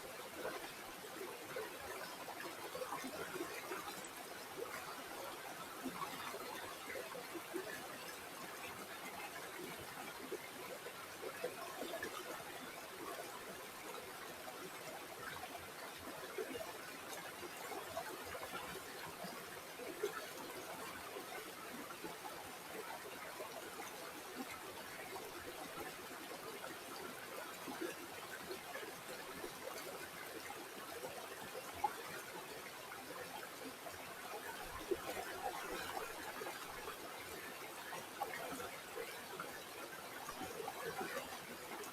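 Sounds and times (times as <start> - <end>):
river water babbling: 0.0 - 41.9.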